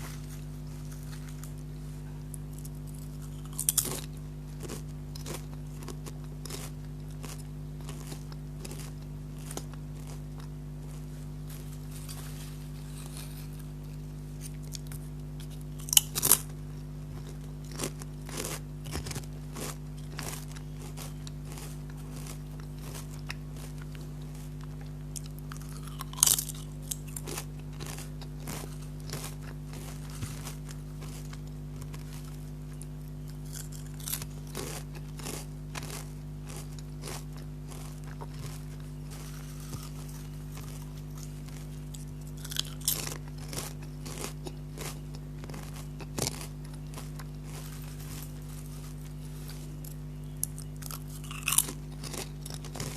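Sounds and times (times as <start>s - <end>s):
potato chips crunching: 0.0s - 52.9s
steady low hum: 0.0s - 52.9s.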